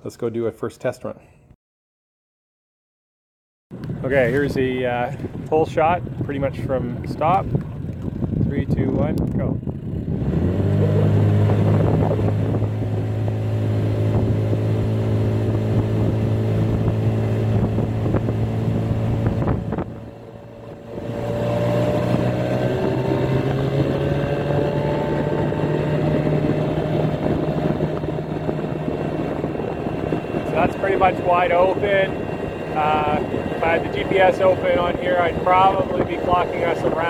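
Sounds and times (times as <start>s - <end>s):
outboard engine at full throttle: 3.8s - 37.0s.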